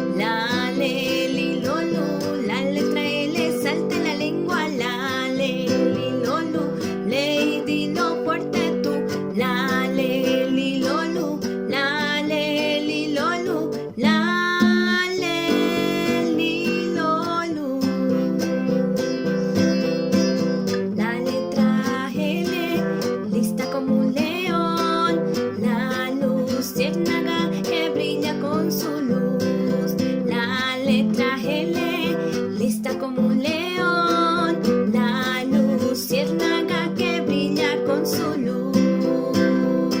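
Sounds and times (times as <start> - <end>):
acoustic guitar: 0.0 - 40.0.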